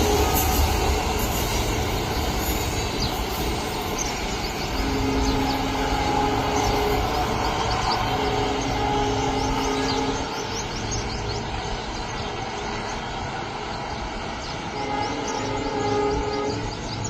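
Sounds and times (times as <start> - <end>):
goods train rumbling on track: 0.0 - 17.0.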